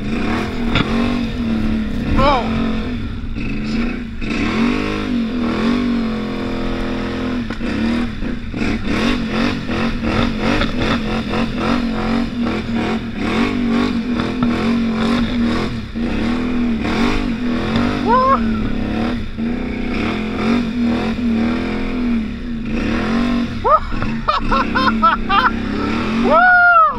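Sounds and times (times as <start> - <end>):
atv engine revving: 0.0 - 26.9.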